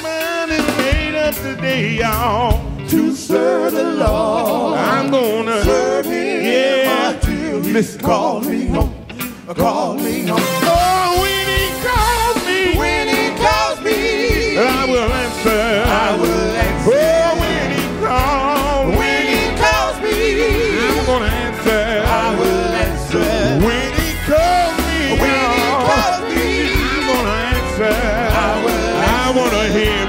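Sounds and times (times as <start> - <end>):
gospel quartet singing with band: 0.0 - 30.0.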